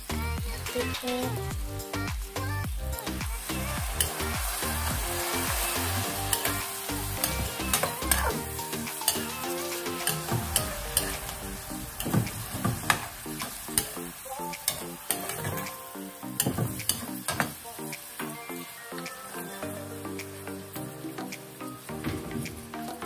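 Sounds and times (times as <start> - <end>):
background music: 0.0 - 23.0
meat and potatoes sizzling: 0.0 - 23.0.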